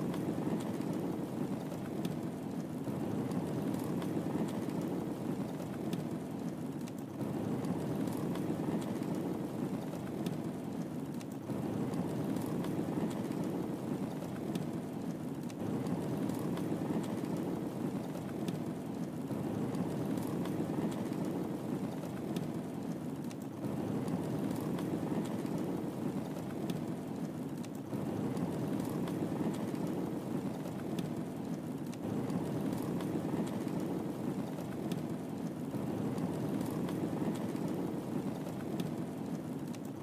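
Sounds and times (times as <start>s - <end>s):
fire burning in fireplace: 0.0s - 40.0s
fire crackling and popping: 0.0s - 40.0s.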